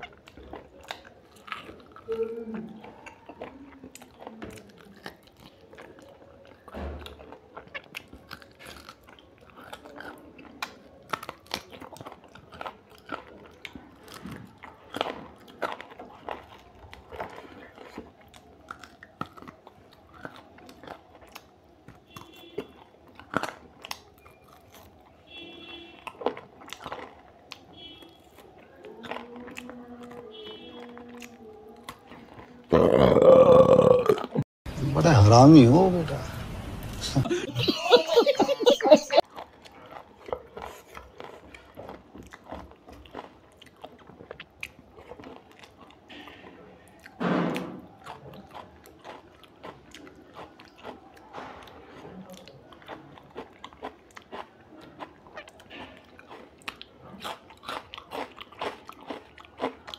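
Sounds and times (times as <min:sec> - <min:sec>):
person chewing food: 0:00.0 - 0:34.4, 0:37.3 - 0:59.9.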